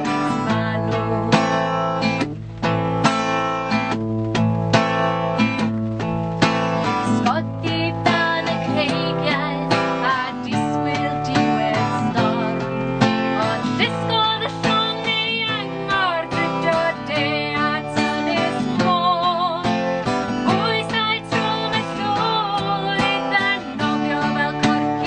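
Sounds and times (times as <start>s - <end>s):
strummed acoustic guitar: 0.0s - 25.0s
woman singing folk song: 0.0s - 25.0s.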